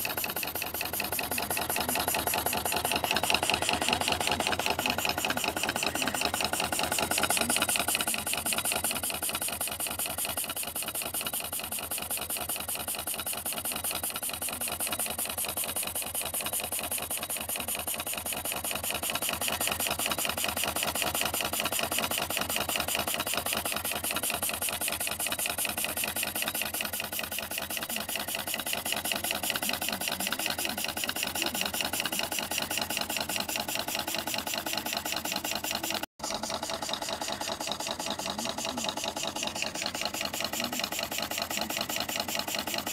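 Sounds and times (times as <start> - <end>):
model steam engine running: 0.0 - 42.9.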